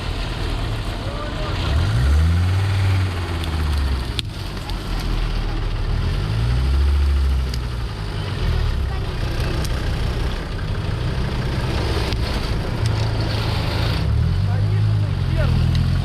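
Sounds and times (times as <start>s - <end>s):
vehicle engine revving under load: 0.0s - 16.0s.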